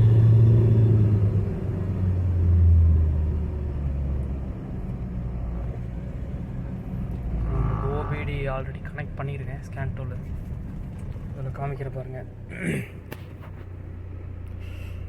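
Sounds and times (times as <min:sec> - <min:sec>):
diesel car engine droning: 0:00.0 - 0:15.0.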